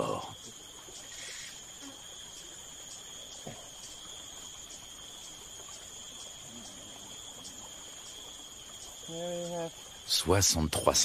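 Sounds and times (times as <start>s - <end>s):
forest hiss: 0.0s - 11.0s
high-pitched insect drone: 0.0s - 11.0s.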